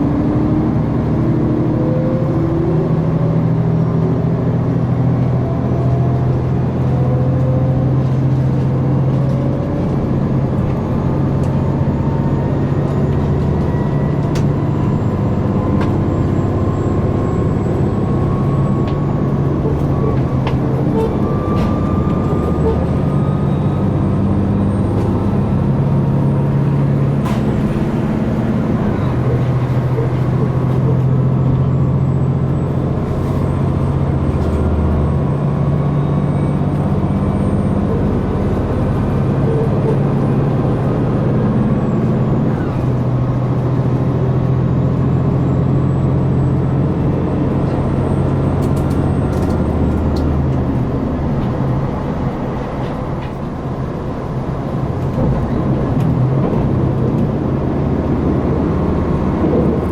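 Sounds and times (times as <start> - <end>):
diesel railcar engine drone: 0.0 - 59.9
train rumbling on rails: 0.0 - 59.9.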